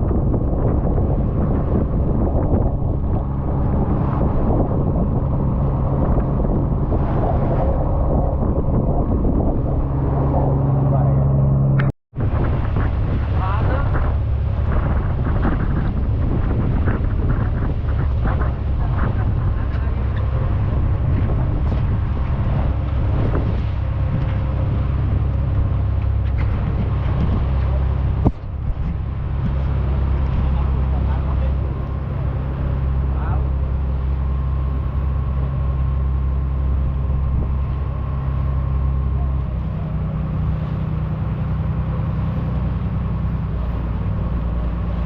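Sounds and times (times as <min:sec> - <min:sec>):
boat engine running: 0:00.0 - 0:45.0
wind blowing on microphone: 0:00.0 - 0:45.0.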